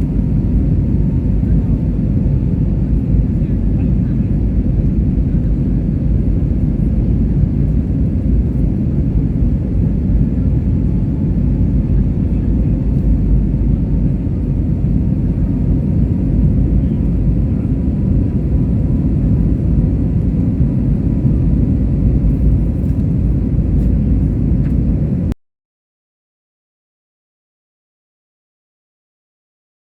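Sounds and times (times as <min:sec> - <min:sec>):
faint engine whine: 0:00.0 - 0:25.4
jet engines rumbling in flight: 0:00.0 - 0:25.4.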